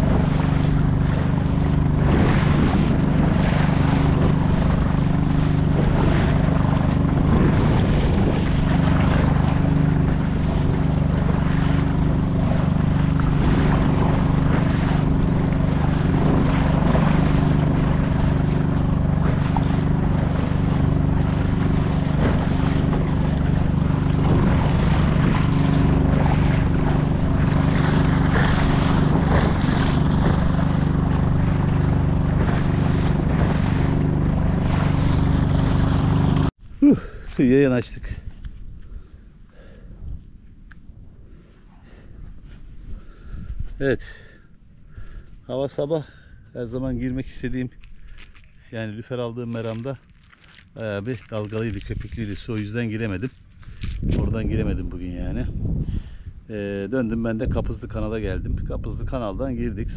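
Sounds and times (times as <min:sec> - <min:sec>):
outboard motor running: 0:00.0 - 0:40.2, 0:41.2 - 0:59.9
waves splashing on hull: 0:00.0 - 0:59.9.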